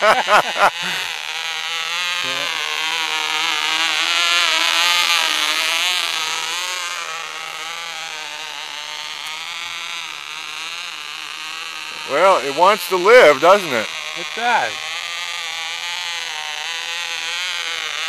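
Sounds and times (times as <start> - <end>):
model plane engine buzzing: 0.0 - 18.0.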